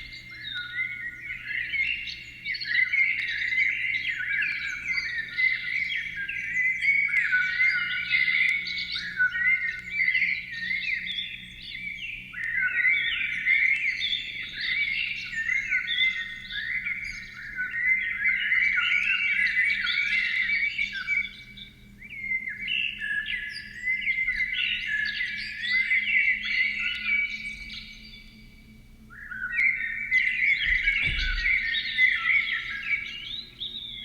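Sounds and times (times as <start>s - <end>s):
flock of small birds chirping: 0.0s - 34.0s.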